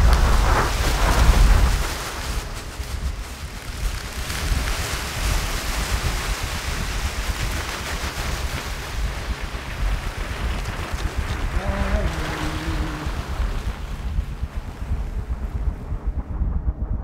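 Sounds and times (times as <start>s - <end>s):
deep fluctuating low rumble: 0.0s - 17.0s
steady rushing noise: 0.0s - 17.0s.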